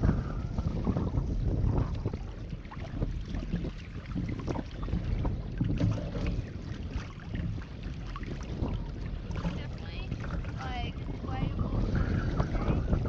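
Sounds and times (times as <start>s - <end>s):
water lapping against hull: 0.0s - 13.0s
wind buffeting microphone: 0.0s - 13.0s.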